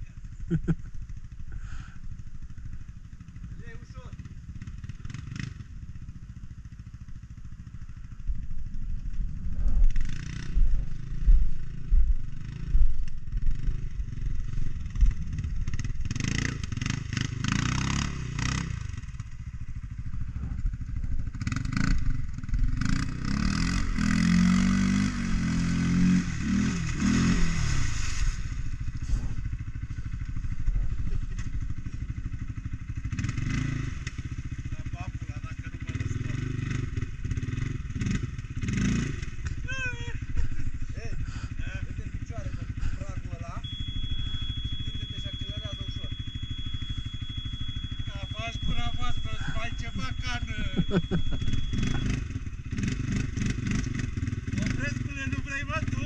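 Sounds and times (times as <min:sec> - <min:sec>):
atv engine revving in mud: 0:00.2 - 0:56.0.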